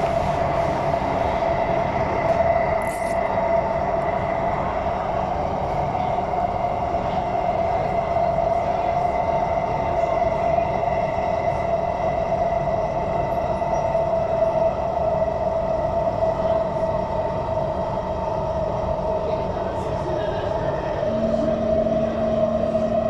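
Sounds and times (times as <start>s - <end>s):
constant train tone: 0.0s - 23.0s
train rolling rumble: 0.0s - 23.0s.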